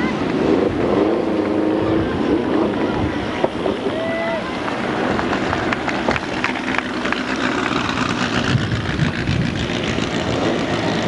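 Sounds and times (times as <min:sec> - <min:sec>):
race car engine passing: 0:00.0 - 0:11.0.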